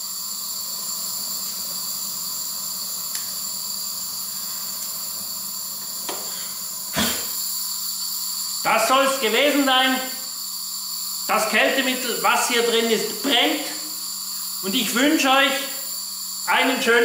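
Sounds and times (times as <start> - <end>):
gas hissing and burning: 0.0 - 17.0.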